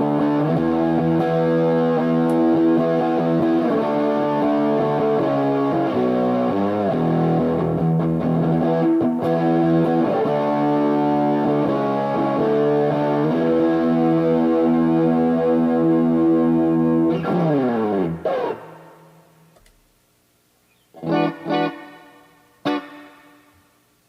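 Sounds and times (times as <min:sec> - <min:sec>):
distorted electric guitar chords: 0:00.0 - 0:19.6, 0:21.0 - 0:23.8.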